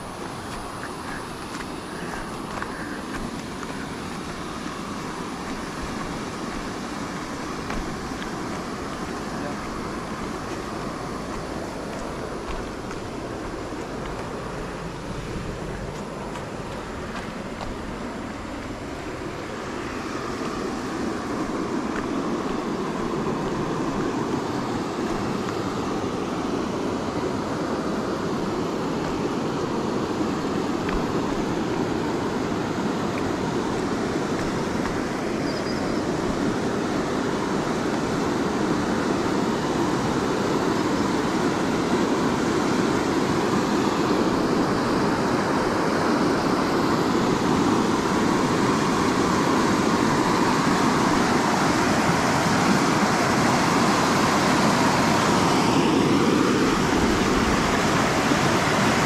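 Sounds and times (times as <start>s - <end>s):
water rushing over weir: 0.0s - 59.0s.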